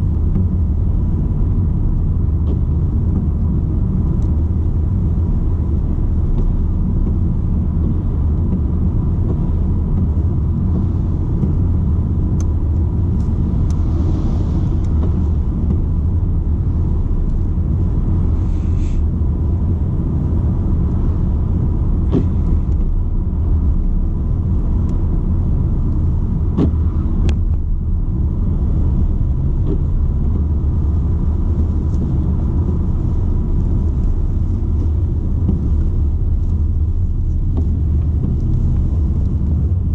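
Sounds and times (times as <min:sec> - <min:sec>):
diesel engine rumble: 0:00.0 - 0:39.9
tyres on the road: 0:00.0 - 0:39.9.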